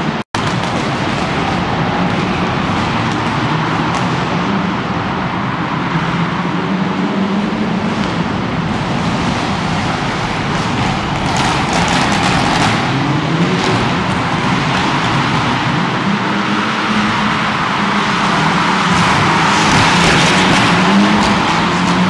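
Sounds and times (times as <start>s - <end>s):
turbocharged car engine revving hard: 0.4s - 22.0s.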